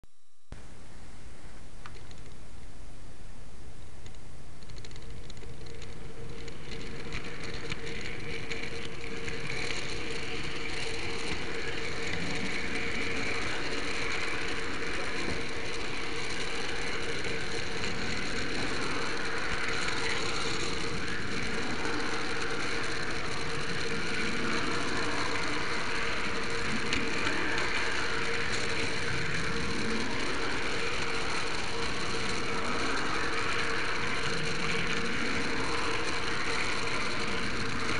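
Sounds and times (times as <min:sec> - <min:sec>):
motor whine: 0:03.2 - 0:37.9
model train wheels clattering on track: 0:04.0 - 0:37.9.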